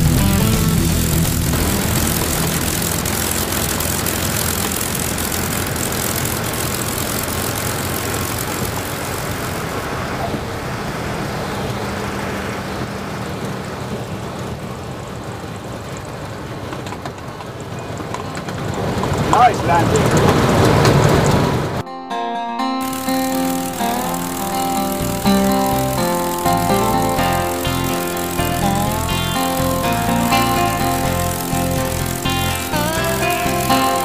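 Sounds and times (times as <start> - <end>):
aircraft engine at low power: 0.0 - 21.8, 22.8 - 34.0.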